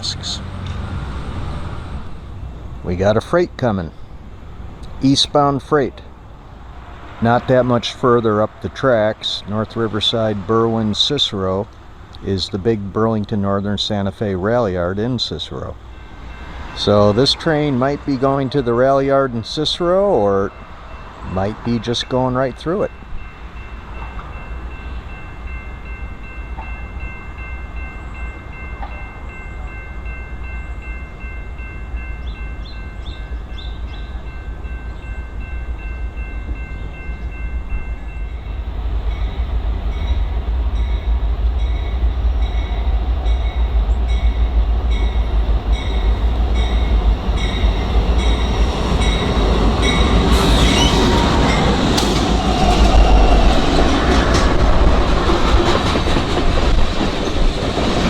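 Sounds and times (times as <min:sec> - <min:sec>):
diesel train engine rumble: 0:00.0 - 0:58.0
train passing rush: 0:00.0 - 0:58.0.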